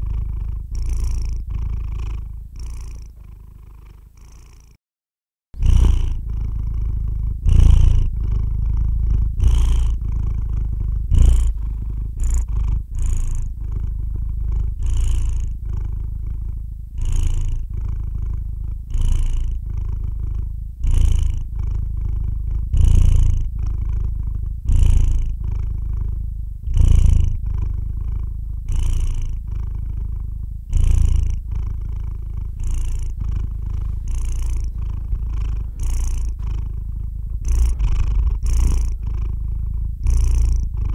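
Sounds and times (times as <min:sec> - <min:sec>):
cat purring: 0:00.0 - 0:04.8, 0:05.6 - 0:40.9.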